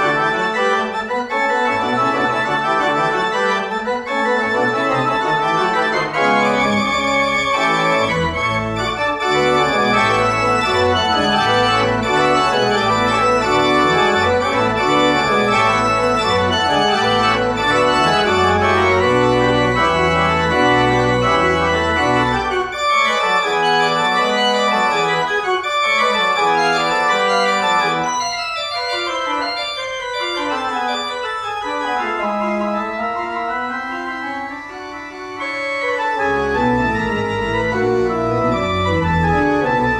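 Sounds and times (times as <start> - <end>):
organ chords: 0.0 - 39.9
organ pedal bass: 0.0 - 39.9.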